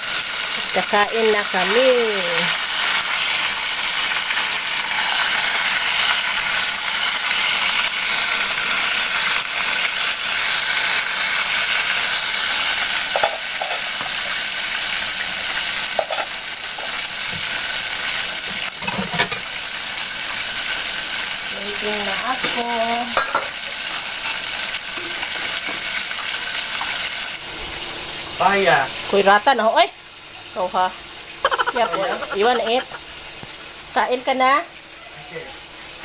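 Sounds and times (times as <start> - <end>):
food sizzling in a pan: 0.0 - 36.0.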